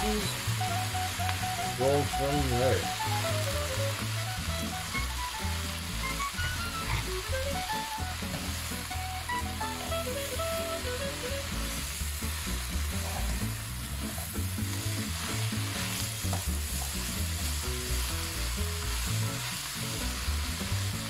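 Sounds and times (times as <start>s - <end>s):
spatula tossing vegetables: 0.0s - 9.0s, 9.6s - 21.0s
vegetables sizzling in frying pan: 0.0s - 21.0s.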